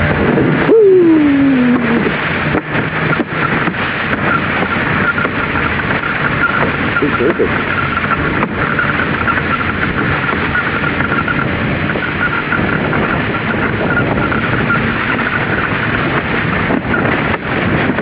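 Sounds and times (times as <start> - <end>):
kayak rushing over snow: 0.0 - 18.0
vehicle engine running: 0.0 - 18.0.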